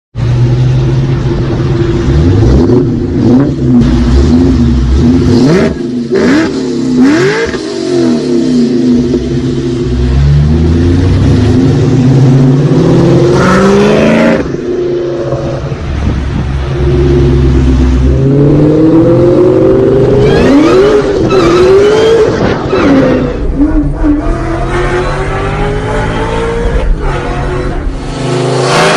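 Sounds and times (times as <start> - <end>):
car engine revving: 0.2 - 28.9.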